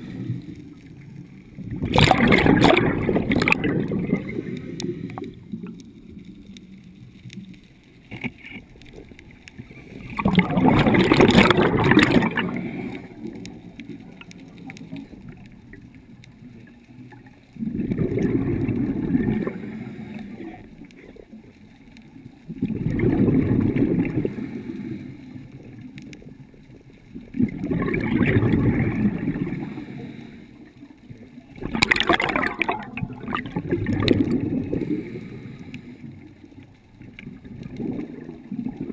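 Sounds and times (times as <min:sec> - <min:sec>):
diver's exhaled bubbles gurgling: 0:00.0 - 0:21.6, 0:22.2 - 0:38.9
low underwater rumble: 0:00.0 - 0:38.9.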